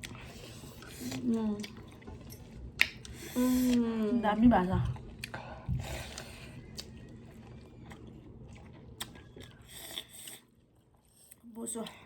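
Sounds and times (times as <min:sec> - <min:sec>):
person chewing food: 0:00.0 - 0:04.1, 0:04.8 - 0:12.0.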